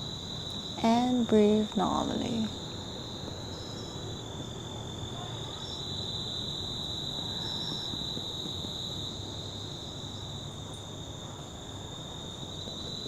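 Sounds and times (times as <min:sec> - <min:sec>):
insects chirping chorus: 0:00.0 - 0:13.0.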